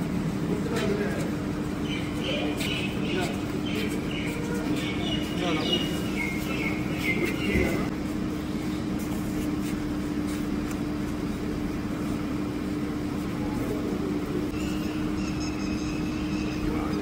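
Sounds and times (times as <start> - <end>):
noisy background: 0.0 - 17.0
steady machine hum: 0.0 - 17.0.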